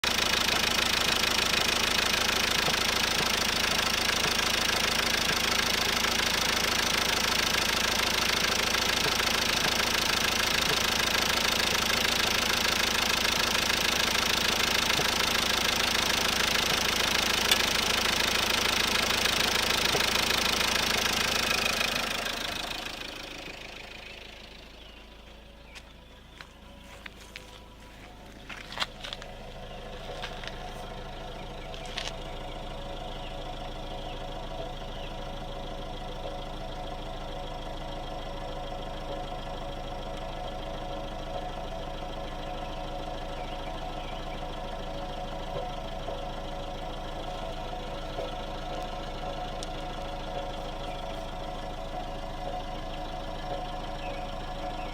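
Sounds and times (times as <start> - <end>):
engine running: 0.0 - 54.9
exhaust knocking and popping: 0.0 - 54.9.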